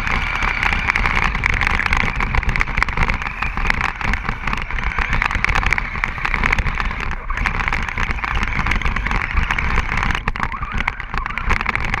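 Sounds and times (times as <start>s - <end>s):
rc car driving through snow: 0.0s - 12.0s.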